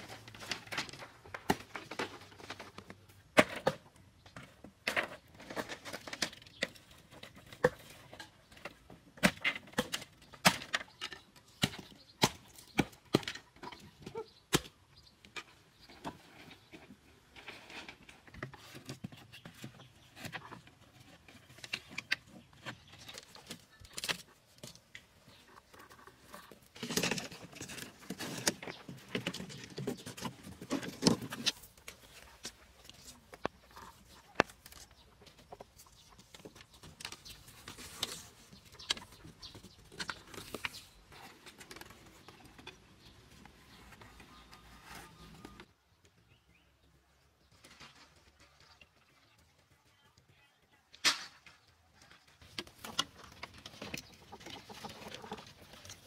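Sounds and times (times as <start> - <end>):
rustling and scraping: 0.0 - 14.4, 15.0 - 45.8, 47.3 - 49.8, 51.0 - 56.0.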